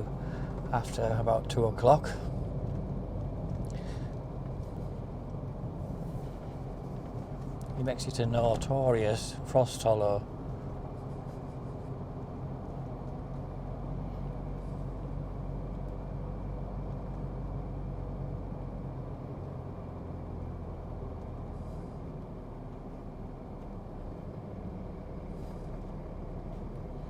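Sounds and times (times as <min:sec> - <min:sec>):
road and tyre noise: 0:00.0 - 0:27.0
truck engine drone: 0:00.0 - 0:27.0.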